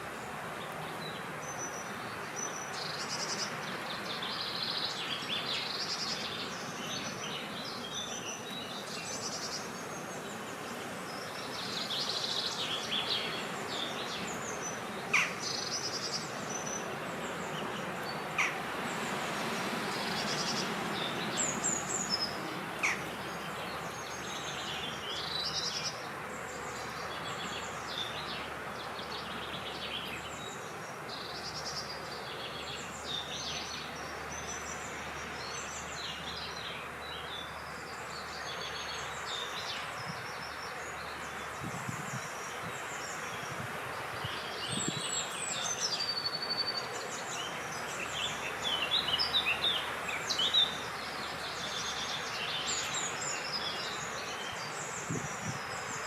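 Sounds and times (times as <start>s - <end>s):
wind hiss: 0.0s - 56.0s.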